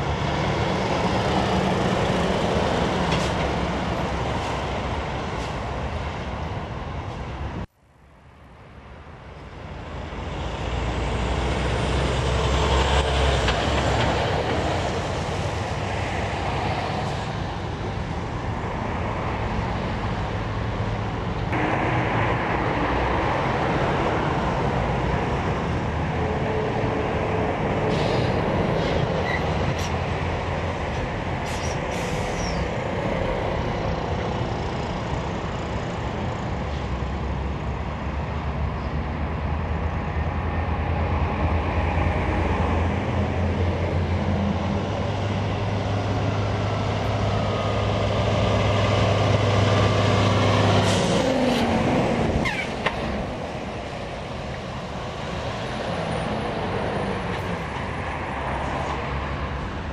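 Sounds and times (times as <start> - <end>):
lorries passing: 0.0 - 7.7, 8.3 - 59.9.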